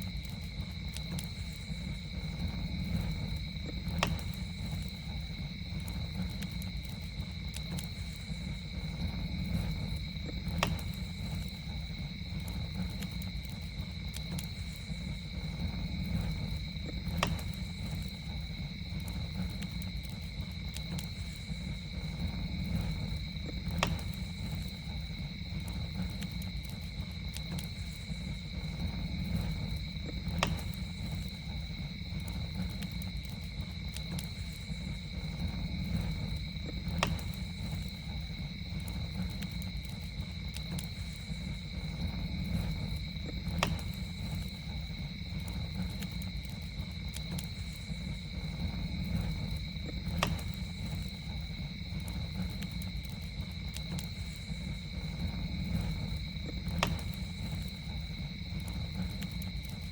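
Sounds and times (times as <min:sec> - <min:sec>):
campfire crackling and popping: 0:00.0 - 0:59.9
night insects droning: 0:00.0 - 0:59.9.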